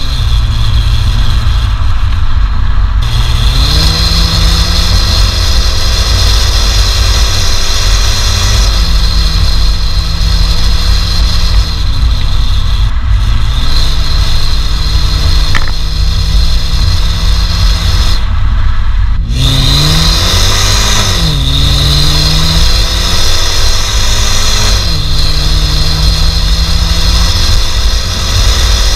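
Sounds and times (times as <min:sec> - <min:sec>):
car engine accelerating: 0:00.0 - 0:28.9
road and wind rumble: 0:00.0 - 0:28.9.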